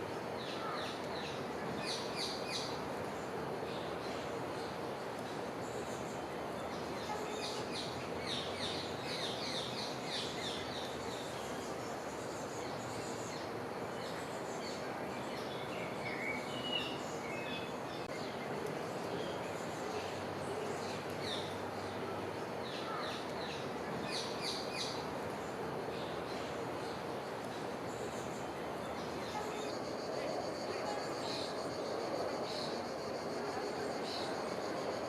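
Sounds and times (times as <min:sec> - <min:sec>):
background hiss: 0:00.0 - 0:35.0.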